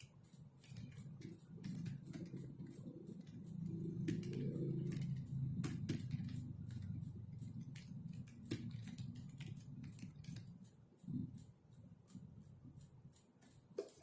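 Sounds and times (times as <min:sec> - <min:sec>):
computer keyboard typing: 0:00.0 - 0:12.8
low steady hum: 0:00.0 - 0:14.0.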